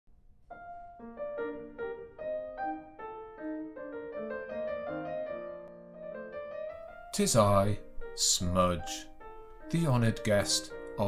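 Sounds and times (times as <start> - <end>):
gentle piano melody: 0.4 - 11.0.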